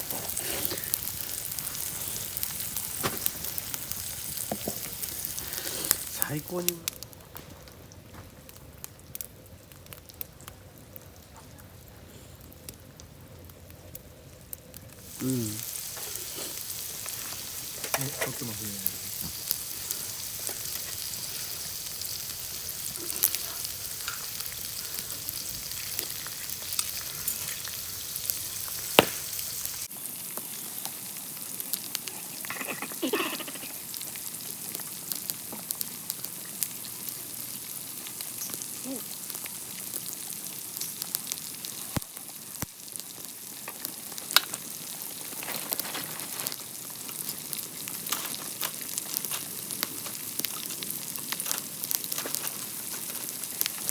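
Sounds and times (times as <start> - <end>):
food sizzling in oil: 0.0 - 7.1, 14.8 - 53.9.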